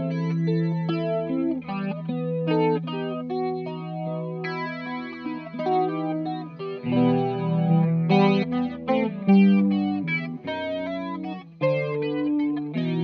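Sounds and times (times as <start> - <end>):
electric guitar with flanger: 0.0 - 13.0.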